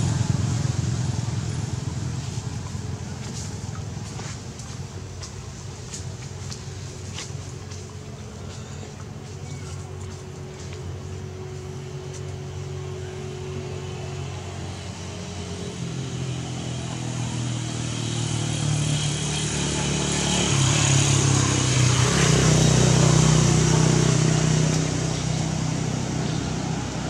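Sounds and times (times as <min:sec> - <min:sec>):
vehicle engine passing by: 0:00.0 - 0:27.0.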